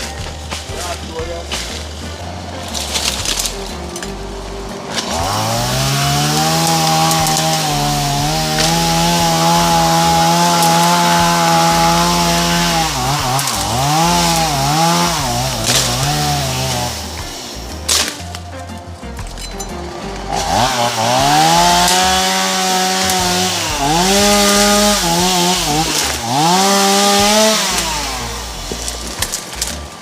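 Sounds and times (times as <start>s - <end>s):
chainsaw engine revving: 0.0s - 18.5s, 19.6s - 30.0s.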